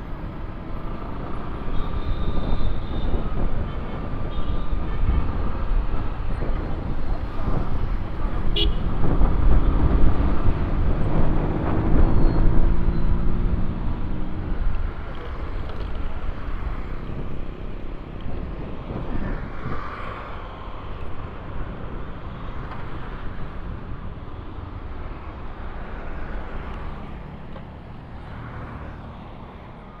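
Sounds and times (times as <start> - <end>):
wind noise: 0.0 - 26.5
road noise: 0.0 - 30.0.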